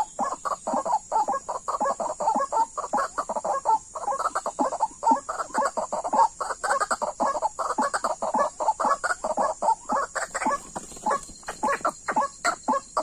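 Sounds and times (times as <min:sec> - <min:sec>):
waterhen clucking calls: 0:00.0 - 0:13.0.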